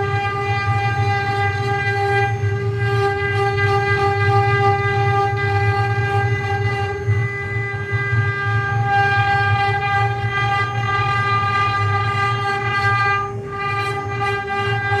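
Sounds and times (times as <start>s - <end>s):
fluttering low hum: 0.0s - 15.0s
router spindle whine: 0.0s - 15.0s.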